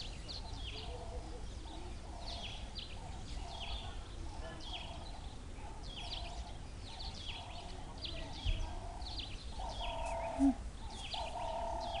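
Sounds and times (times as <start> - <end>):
low buzzy bird call: 0.0 - 12.0.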